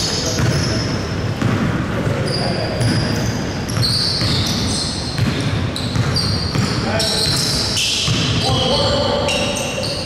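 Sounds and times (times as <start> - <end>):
basketball bouncing on court: 0.0 - 9.5.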